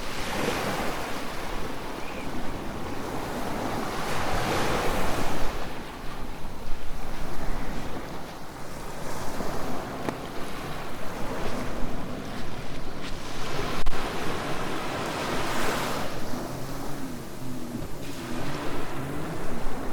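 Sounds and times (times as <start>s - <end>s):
surf breaking on beach: 0.0s - 19.9s
wind on microphone: 0.0s - 19.9s.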